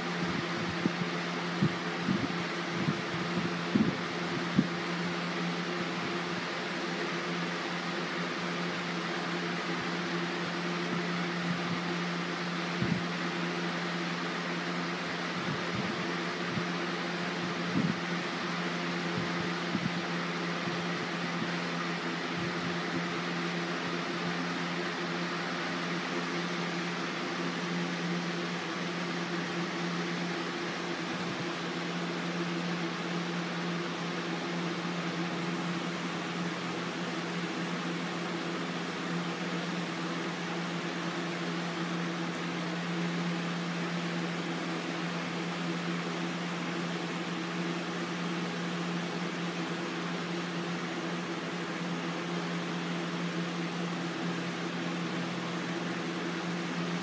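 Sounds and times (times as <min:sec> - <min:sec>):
electric fan running: 0:00.0 - 0:57.0.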